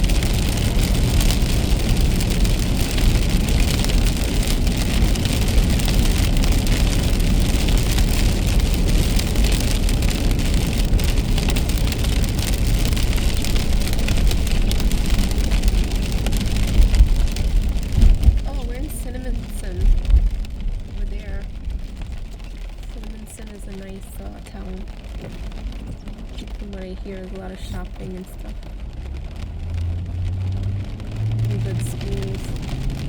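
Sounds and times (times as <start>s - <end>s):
rain hitting a car: 0.0s - 33.0s
road and tyre noise: 0.0s - 33.0s.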